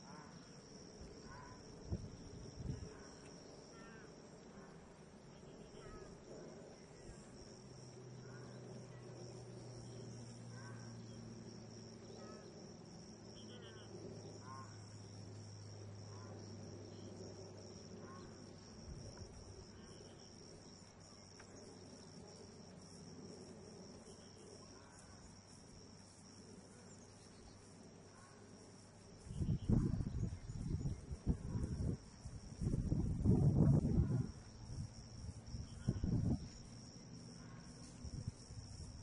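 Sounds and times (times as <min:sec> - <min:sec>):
high insect buzz: 0:00.0 - 0:39.0.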